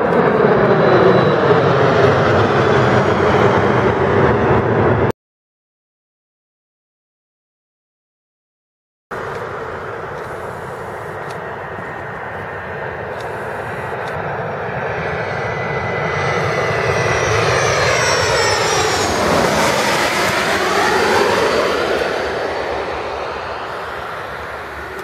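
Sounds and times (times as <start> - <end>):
high jet whine: 0.0 - 5.1, 9.1 - 25.0
jet engines roaring: 0.0 - 5.1, 9.1 - 25.0.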